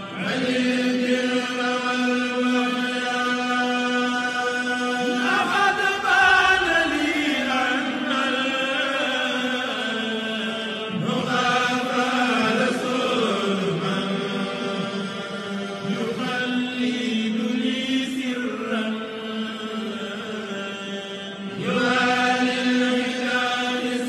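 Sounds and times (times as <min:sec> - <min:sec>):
man chanting: 0:00.0 - 0:24.0.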